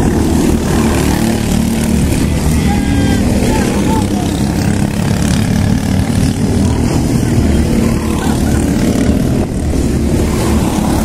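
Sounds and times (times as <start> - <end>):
kart engine running: 0.0 - 11.0.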